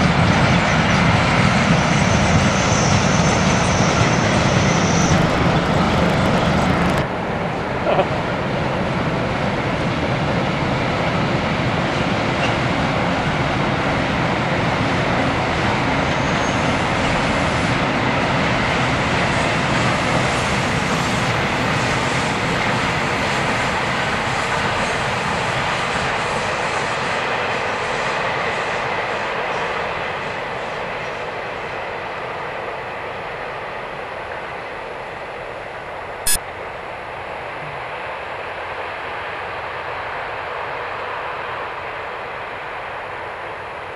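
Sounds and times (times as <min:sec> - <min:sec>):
train wheels rushing on rail: 0:00.0 - 0:43.9.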